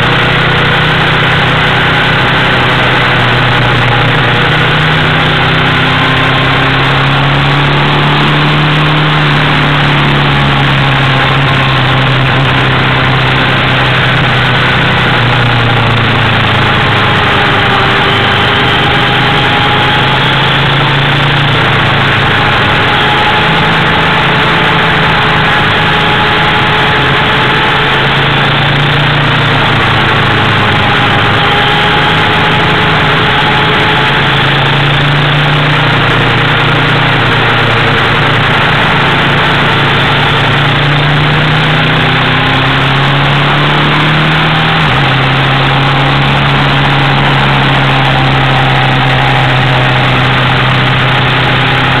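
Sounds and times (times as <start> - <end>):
motorcycle engine running hard: 0.0 - 52.0
rush of wind: 0.0 - 52.0.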